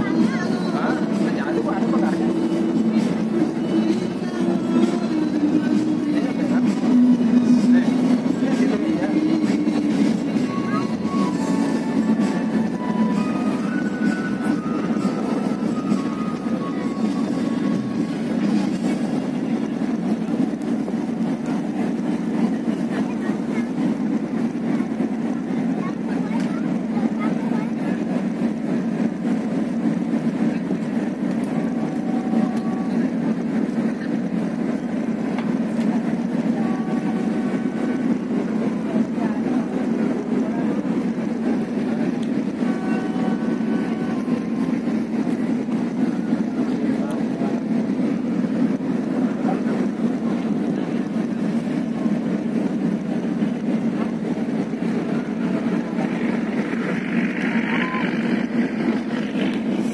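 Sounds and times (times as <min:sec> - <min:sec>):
rushing wind: 0:00.0 - 0:59.9
ship engines droning: 0:00.0 - 0:59.9.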